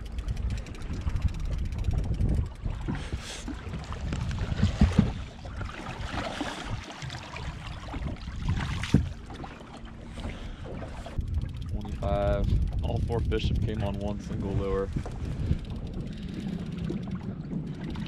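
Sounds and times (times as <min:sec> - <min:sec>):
water splashing against boat: 0:00.0 - 0:18.0
wind buffeting microphone: 0:00.0 - 0:18.0.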